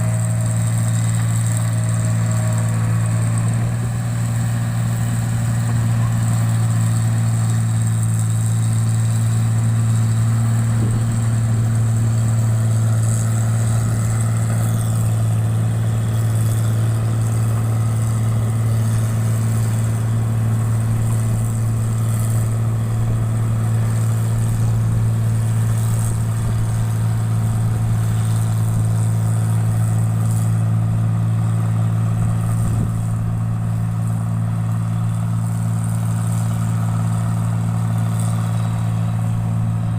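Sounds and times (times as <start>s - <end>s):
rice machine engine droning: 0.0s - 39.9s.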